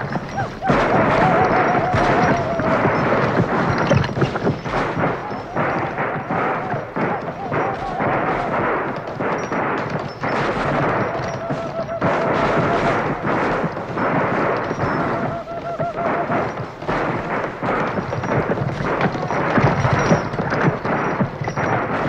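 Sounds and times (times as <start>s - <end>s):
clatter of sharp cracks and bangs: 0.0s - 22.0s.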